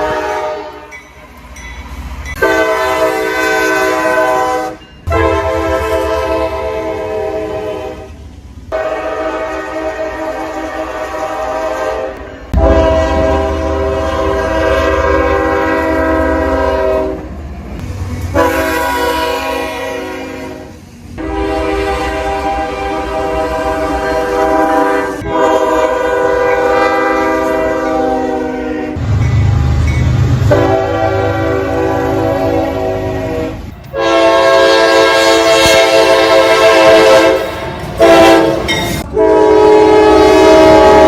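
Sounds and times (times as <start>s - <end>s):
train horn blasts: 0.0s - 1.0s, 2.4s - 17.5s, 18.2s - 41.0s
low rumble of train: 0.0s - 41.0s.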